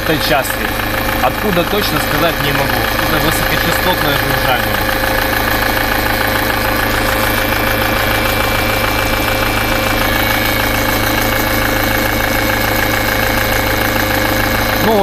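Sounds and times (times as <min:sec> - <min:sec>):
high-pitched buzz: 0:00.0 - 0:13.8
diesel engine running: 0:00.0 - 0:15.0.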